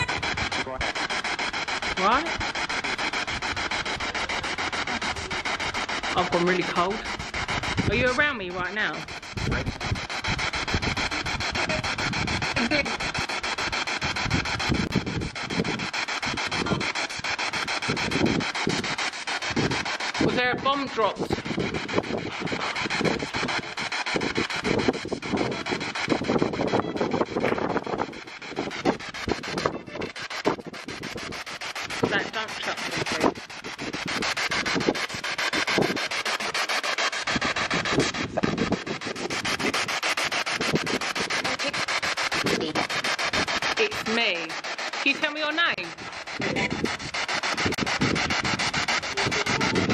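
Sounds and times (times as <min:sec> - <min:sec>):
fragments of broadcast sound: 0:00.0 - 0:49.9
pulsing radio static: 0:00.0 - 0:49.9.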